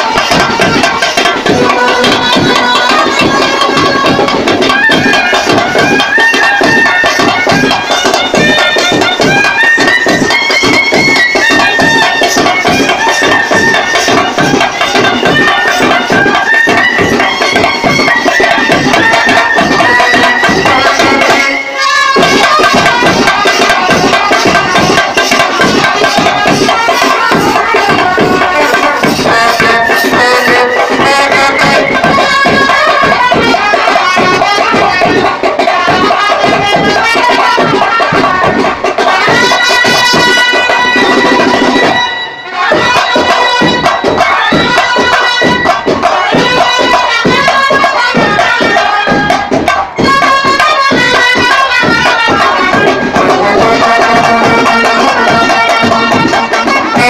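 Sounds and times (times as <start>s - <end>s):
brass band playing a fast tune: 0.0s - 57.0s
driving drum beat: 0.0s - 57.0s.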